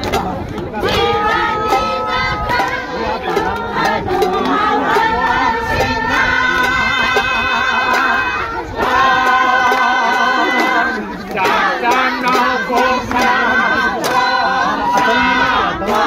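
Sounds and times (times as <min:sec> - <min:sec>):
hand-clapping: 0:00.0 - 0:05.1, 0:05.7 - 0:16.0
crowd singing in chorus: 0:00.0 - 0:16.0.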